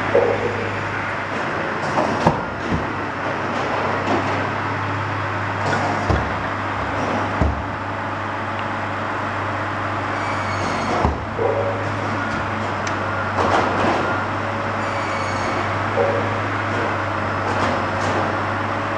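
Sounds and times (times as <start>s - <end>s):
firewood processor droning: 0.0s - 18.9s.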